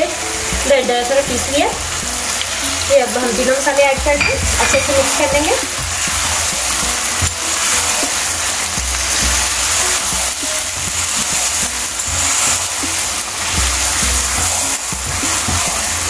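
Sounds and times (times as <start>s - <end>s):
background music: 0.0s - 16.0s
curry sizzling in oil: 0.0s - 16.0s.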